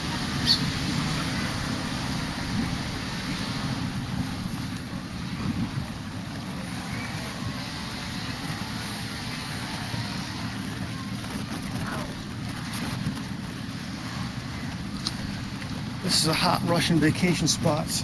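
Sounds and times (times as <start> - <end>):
road traffic going by: 0.0 - 18.0
wind rumbling on microphone: 0.0 - 18.0.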